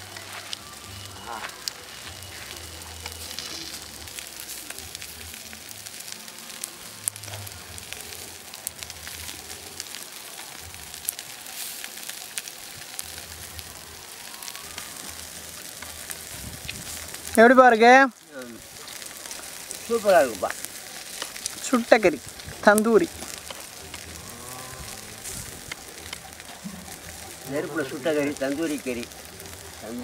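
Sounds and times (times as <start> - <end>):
fire crackling: 0.0 - 30.0
sharp pops of fire: 1.3 - 17.5, 18.2 - 30.0.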